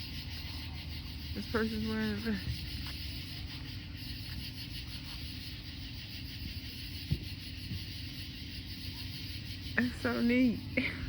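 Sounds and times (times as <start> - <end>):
high pulsing hiss: 0.0 - 11.0.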